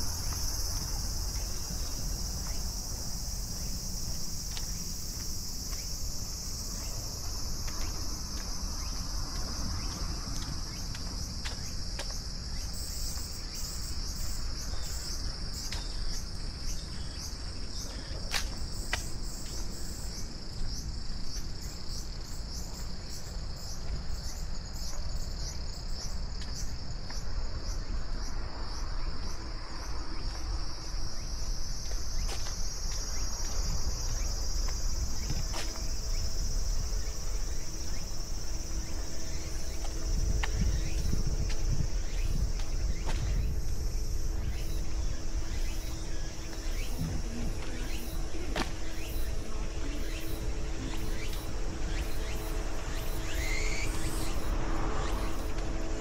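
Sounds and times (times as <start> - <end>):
high-pitched insect chorus: 0.0 - 56.0
pulsing insect call: 0.0 - 56.0.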